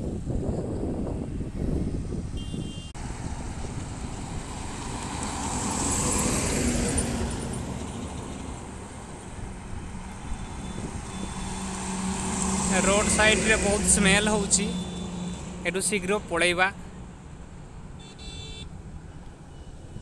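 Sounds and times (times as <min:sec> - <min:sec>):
low traffic rumble: 0:00.0 - 0:20.0
heavy trucks passing: 0:02.9 - 0:20.0.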